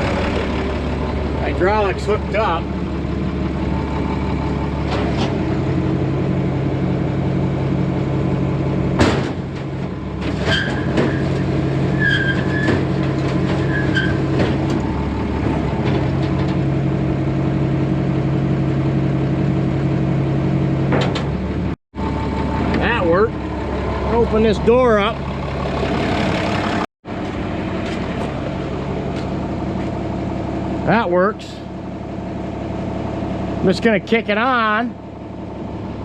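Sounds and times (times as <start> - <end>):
tractor engine idling: 0.0 - 36.0.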